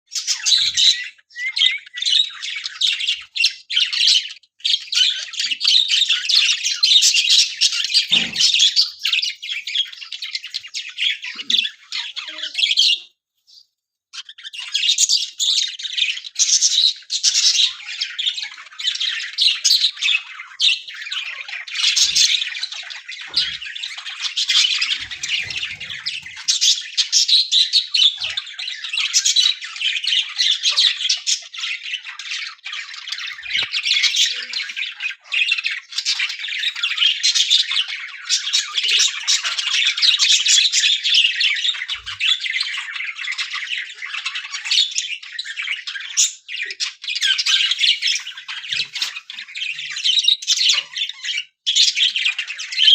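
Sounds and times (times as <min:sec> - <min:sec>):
budgerigars chattering and squawking: 0:00.1 - 0:13.6, 0:14.2 - 0:52.9.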